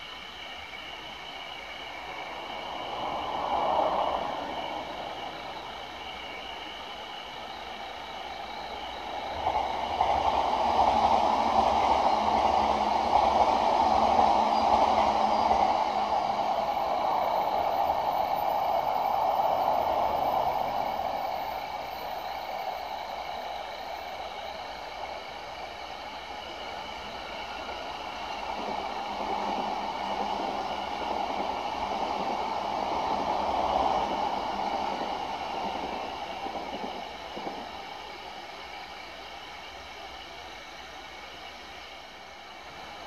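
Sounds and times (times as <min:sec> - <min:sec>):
electric train passing: 0:00.0 - 0:43.0
train wheels rumbling on rails: 0:00.0 - 0:43.0.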